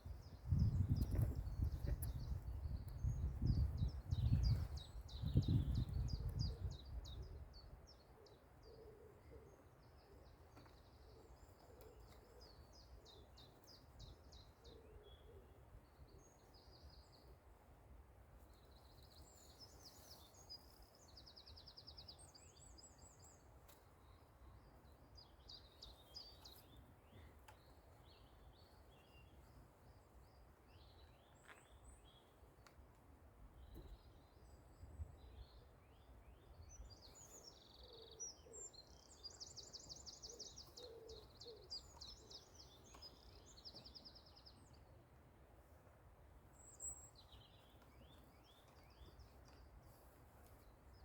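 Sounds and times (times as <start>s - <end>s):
songbirds chirping and trilling: 0.0s - 51.0s.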